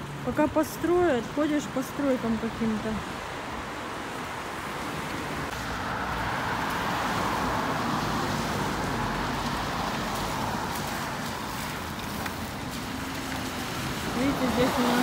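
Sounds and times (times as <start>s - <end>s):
steady traffic hum: 0.0s - 15.0s
tyres hissing on wet road: 0.0s - 15.0s.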